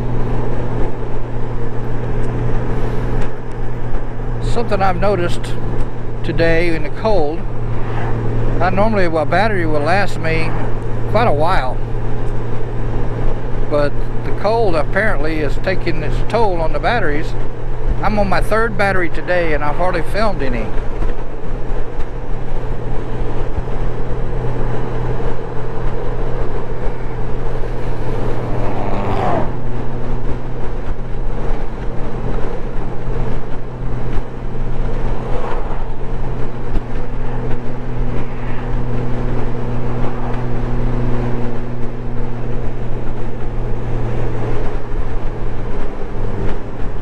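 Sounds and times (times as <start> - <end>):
motorcycle engine drone: 0.0 - 47.0
rushing wind: 0.0 - 47.0.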